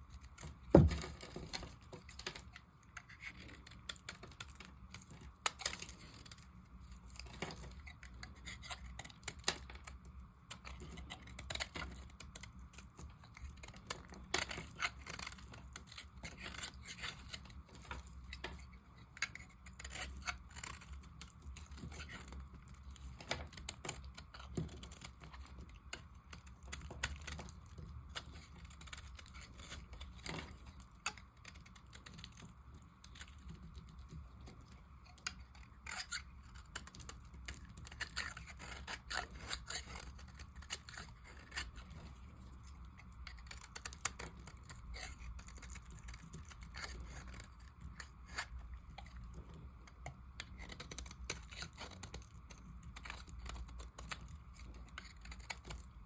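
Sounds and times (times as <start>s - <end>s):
knife cutting dry soap: 0.1s - 56.0s.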